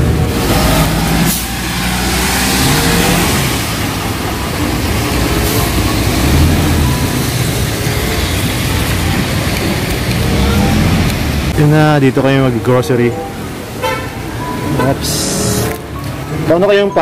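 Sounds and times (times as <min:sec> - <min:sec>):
tyres hissing on wet road: 0:00.0 - 0:16.2
truck engine driving past: 0:00.0 - 0:16.5.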